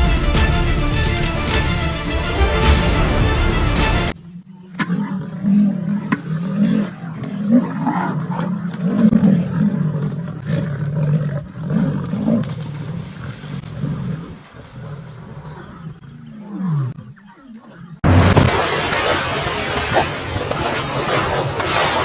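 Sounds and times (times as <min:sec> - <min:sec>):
big cat growling and snarling: 0:04.2 - 0:22.0.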